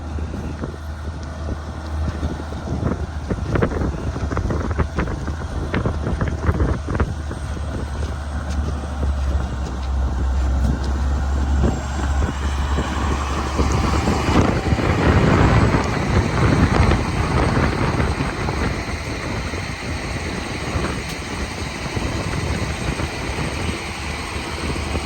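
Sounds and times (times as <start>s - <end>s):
road roller diesel engine: 0.0s - 25.0s.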